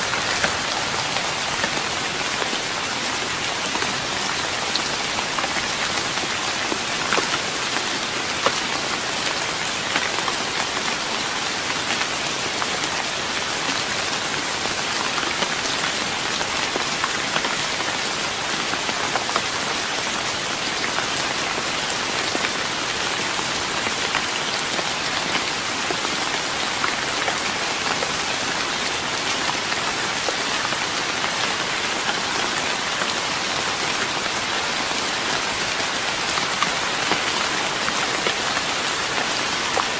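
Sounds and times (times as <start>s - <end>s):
rain on a wooden deck: 0.0s - 39.9s.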